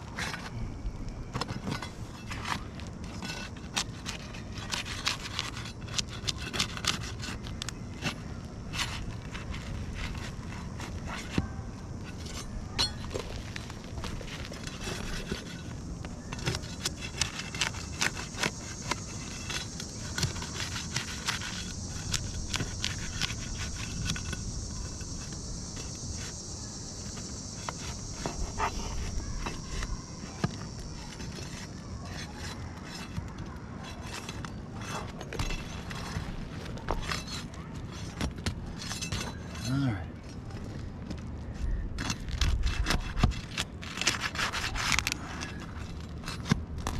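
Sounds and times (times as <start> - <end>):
hand tool scraping shingles: 1.3 - 26.4, 27.0 - 40.0, 41.9 - 46.9.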